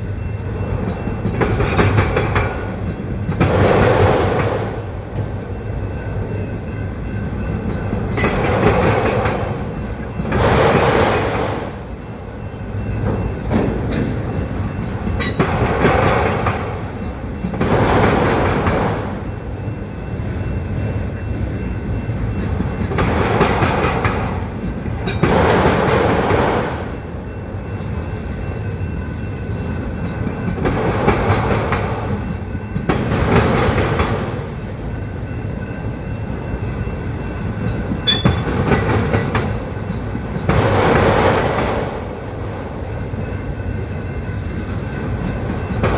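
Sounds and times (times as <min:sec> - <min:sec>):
train wheel squeal: 0:00.0 - 0:45.9
wheels clattering over rail joints: 0:00.6 - 0:05.5, 0:07.2 - 0:45.9.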